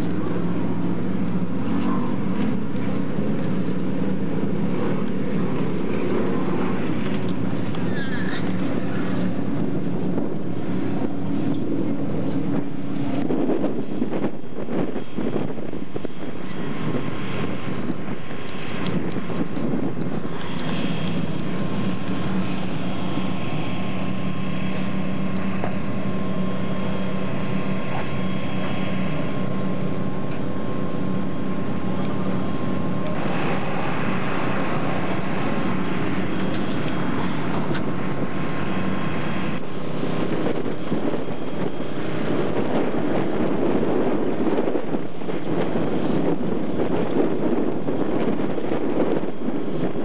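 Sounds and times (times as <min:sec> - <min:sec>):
constant low hum: 0:00.0 - 0:50.0
wind buffeting microphone: 0:00.0 - 0:50.0.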